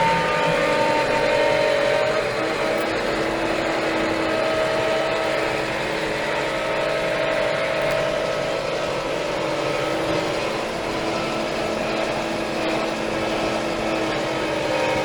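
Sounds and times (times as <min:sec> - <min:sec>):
tractor diesel engine humming: 0:00.0 - 0:15.0.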